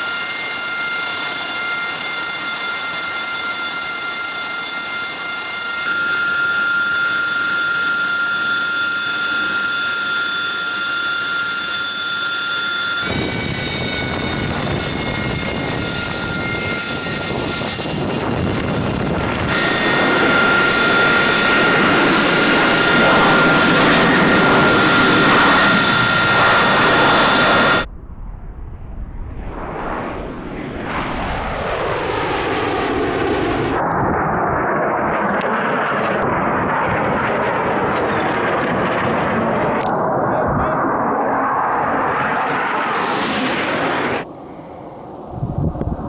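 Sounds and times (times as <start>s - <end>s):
jet engine whine over rush: 0.0s - 46.0s.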